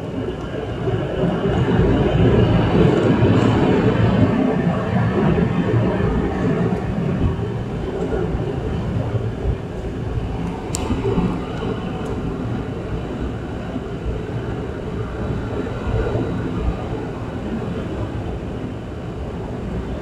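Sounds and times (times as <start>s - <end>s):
turboprop engine rumble in cabin: 0.0s - 20.0s.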